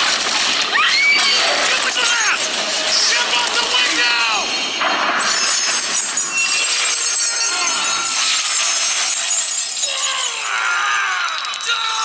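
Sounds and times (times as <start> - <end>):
debris crashing: 0.0 - 12.0
glass shattering: 0.0 - 12.0
glass shards clinking: 1.2 - 12.0.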